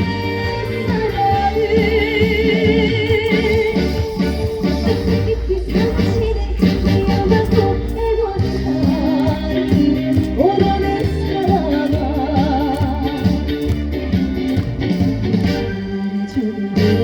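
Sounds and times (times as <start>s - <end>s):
woman singing with vibrato: 0.0s - 13.5s, 16.2s - 17.0s
backing track with steady beat: 0.0s - 17.0s.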